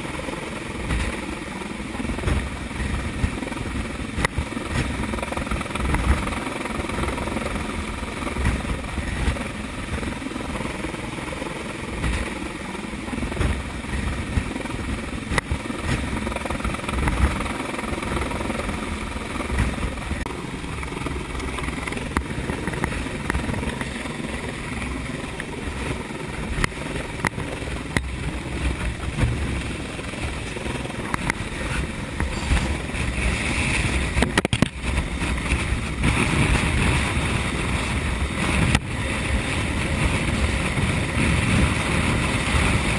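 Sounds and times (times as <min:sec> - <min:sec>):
helicopter hovering overhead: 0:00.0 - 0:42.9
rotor downwash buffeting microphone: 0:00.0 - 0:42.9.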